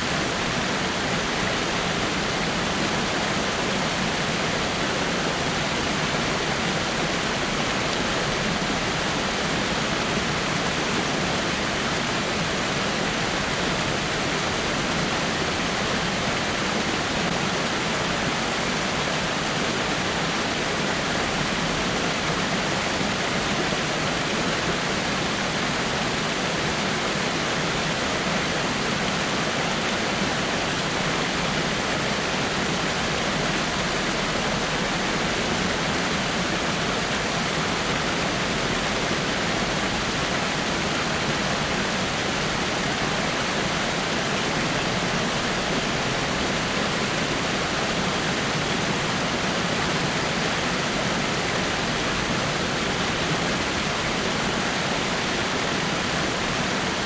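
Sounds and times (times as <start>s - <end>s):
small waterfall over rocks: 0.0s - 57.0s.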